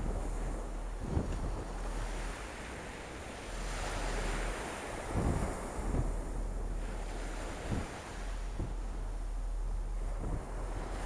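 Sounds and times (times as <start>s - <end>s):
surf washing over sand: 0.0s - 11.0s
wind buffeting microphone: 0.0s - 11.0s.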